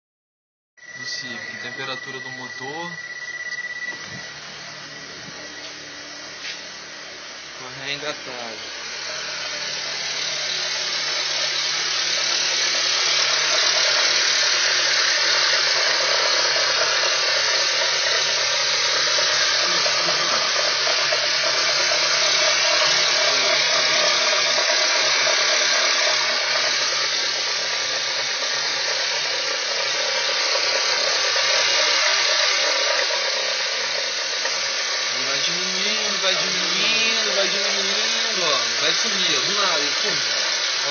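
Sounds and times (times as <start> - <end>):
car engine whirring hiss: 0.8 - 40.9.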